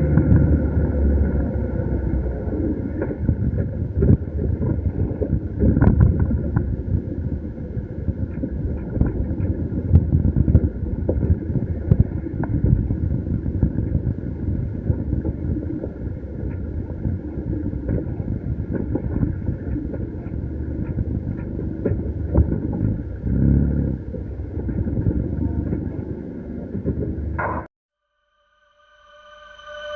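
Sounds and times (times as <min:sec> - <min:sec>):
vehicle engine and road rumble: 0:00.0 - 0:27.7.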